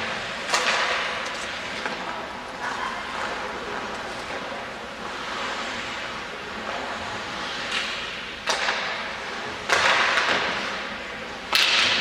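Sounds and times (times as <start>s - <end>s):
hockey sticks and puck cracking: 0.0s - 2.6s, 3.2s - 12.0s.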